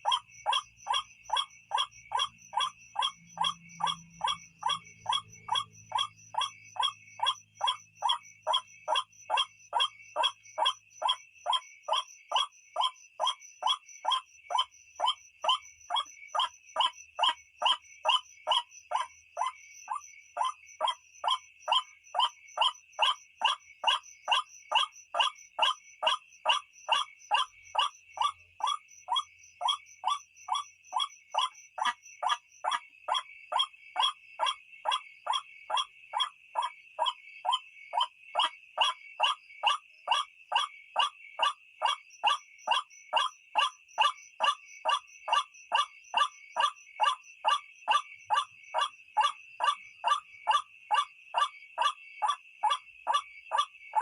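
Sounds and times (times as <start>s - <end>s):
waterhen harsh croaking call: 0.0s - 19.6s, 20.4s - 54.0s.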